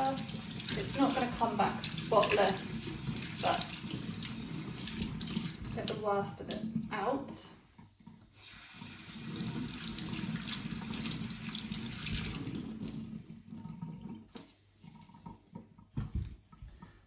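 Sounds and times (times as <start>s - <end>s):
tap water splashing into sink: 0.0s - 16.9s.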